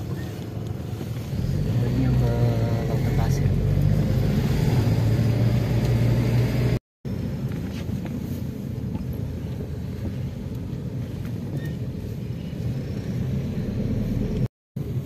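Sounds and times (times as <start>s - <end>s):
car interior engine and tyre rumble: 0.0s - 15.0s.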